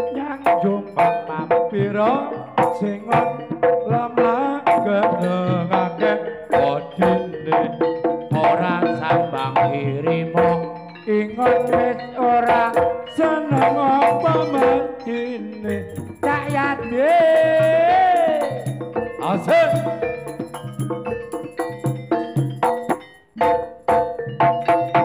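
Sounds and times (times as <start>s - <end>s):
hand drums: 0.0s - 25.0s.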